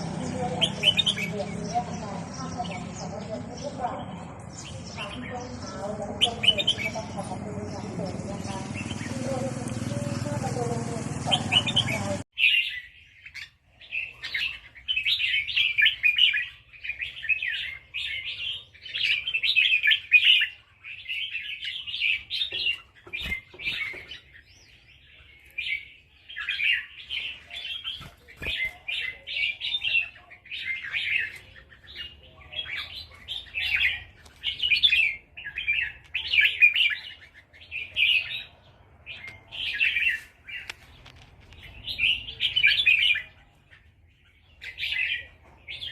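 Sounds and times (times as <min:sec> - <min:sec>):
bulbul singing: 0:00.0 - 0:45.9.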